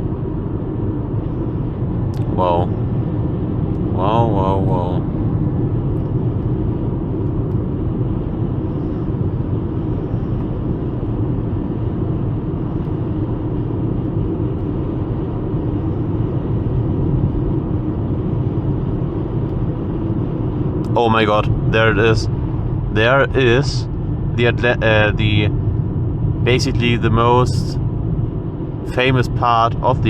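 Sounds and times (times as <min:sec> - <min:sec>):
car engine rumble inside cabin: 0:00.0 - 0:30.0.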